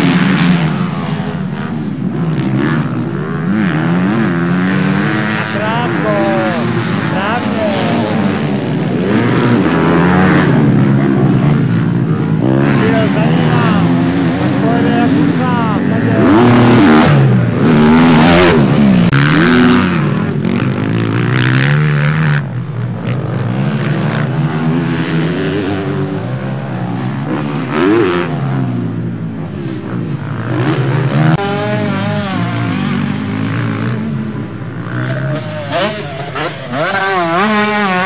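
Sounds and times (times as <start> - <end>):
motocross bikes revving: 0.0 - 38.0.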